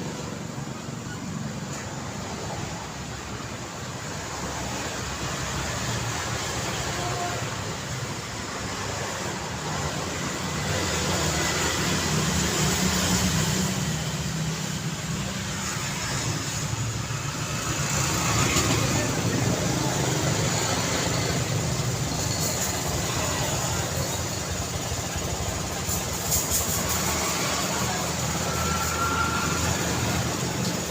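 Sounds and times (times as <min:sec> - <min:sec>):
road vehicles passing: 0:00.0 - 0:30.9.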